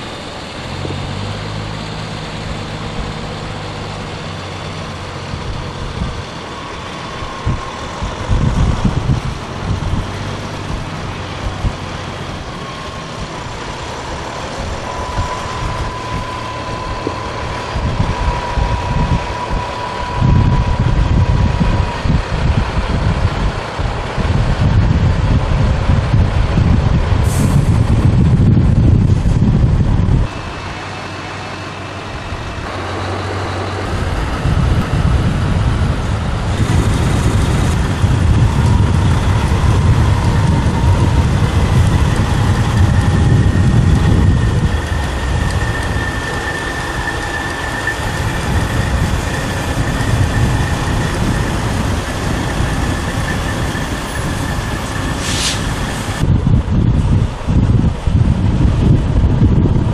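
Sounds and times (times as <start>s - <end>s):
trucks driving past: 0.0s - 59.9s
wind on microphone: 0.0s - 59.9s.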